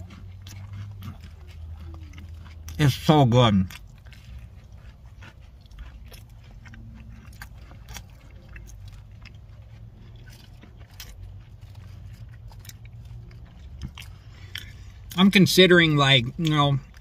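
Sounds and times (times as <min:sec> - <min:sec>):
low steady rumble: 0:00.0 - 0:17.0
person chewing crunchy cookie: 0:00.0 - 0:17.0.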